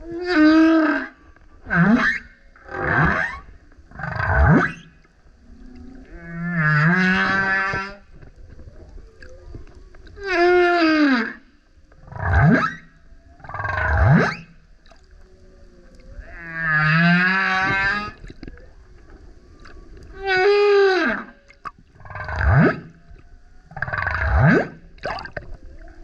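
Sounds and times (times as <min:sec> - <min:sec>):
humpback whale singing: 0:00.0 - 0:26.0.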